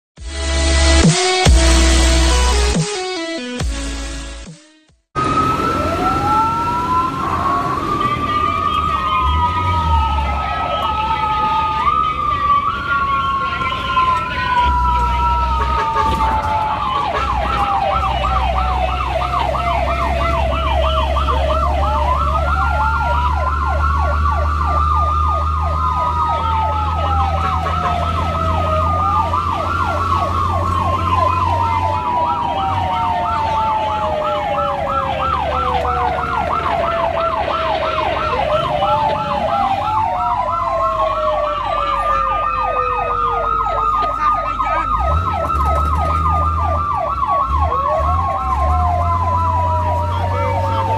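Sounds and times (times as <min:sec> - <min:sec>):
wail sirens: 0:00.4 - 0:50.9
yelp siren: 0:05.2 - 0:50.9.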